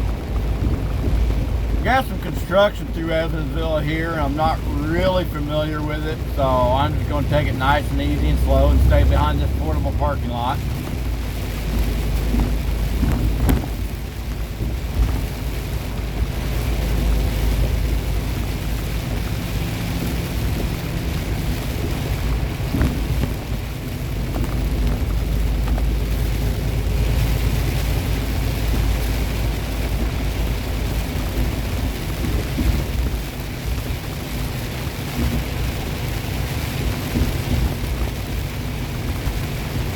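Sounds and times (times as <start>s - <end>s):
rain hiss: 0.0s - 39.9s
road noise: 0.0s - 39.9s
truck engine droning: 0.0s - 39.9s.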